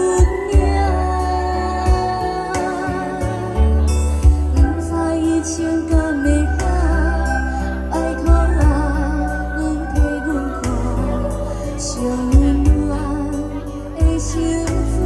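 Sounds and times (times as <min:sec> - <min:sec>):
girl singing into a microphone: 0:00.0 - 0:03.6, 0:04.3 - 0:15.0
backing music with bass and beat: 0:00.0 - 0:15.0.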